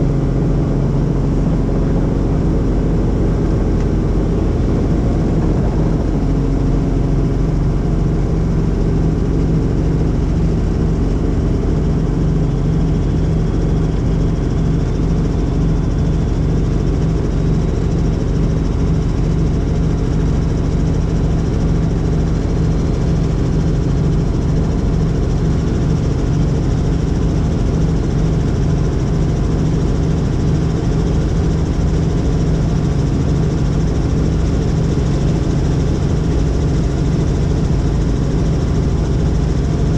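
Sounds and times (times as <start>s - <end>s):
helicopter rotors and engine: 0.0s - 39.9s.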